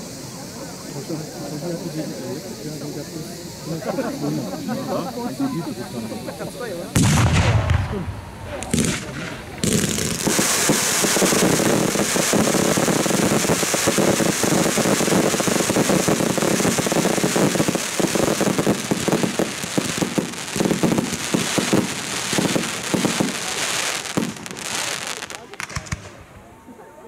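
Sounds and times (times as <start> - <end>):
fireworks crackling and popping: 0.0 - 26.5.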